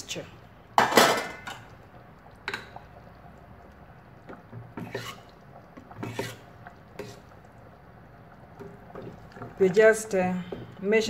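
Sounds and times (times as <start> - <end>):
spoon stirring soup in a pot: 1.0 - 11.0.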